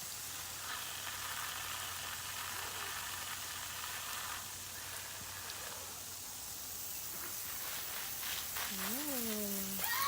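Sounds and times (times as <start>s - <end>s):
water spray hissing: 0.0s - 10.0s.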